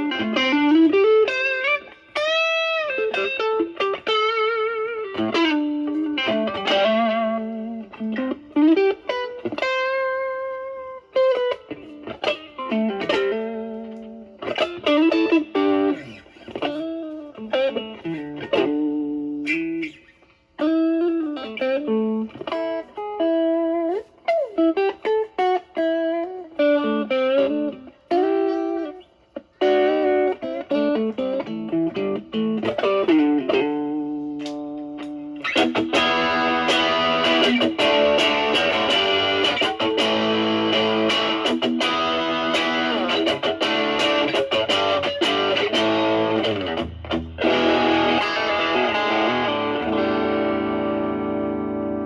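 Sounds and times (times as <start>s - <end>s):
distorted electric guitar lead: 0.0s - 52.0s.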